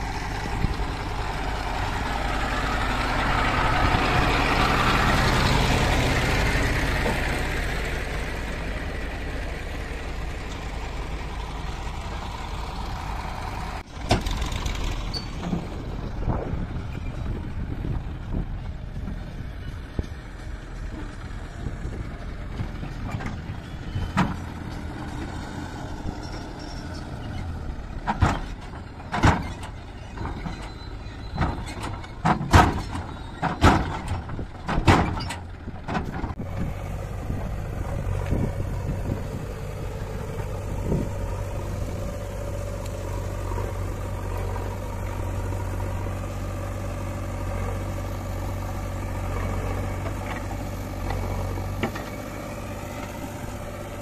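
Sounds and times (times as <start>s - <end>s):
backhoe loader humming: 0.0s - 54.0s
diesel tractor running: 0.0s - 54.0s.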